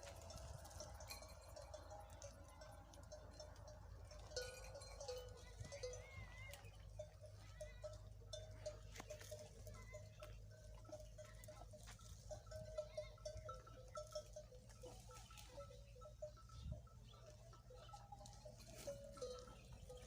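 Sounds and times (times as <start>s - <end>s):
animal bells clinking: 0.0s - 20.0s.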